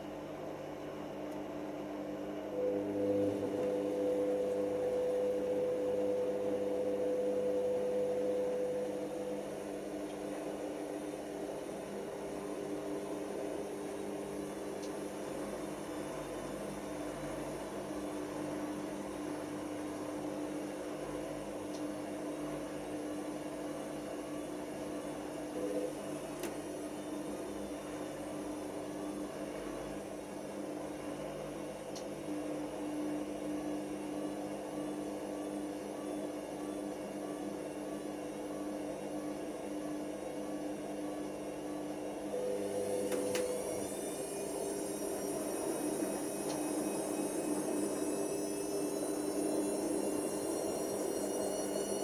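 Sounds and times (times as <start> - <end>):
washing machine motor humming: 0.0 - 52.0.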